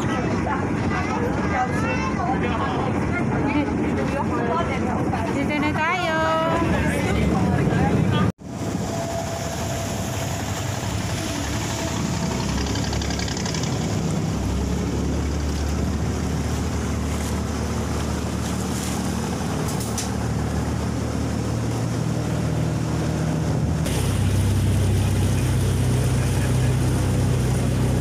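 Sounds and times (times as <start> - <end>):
boat engine running: 0.0 - 28.0
water rushing past hull: 0.0 - 28.0.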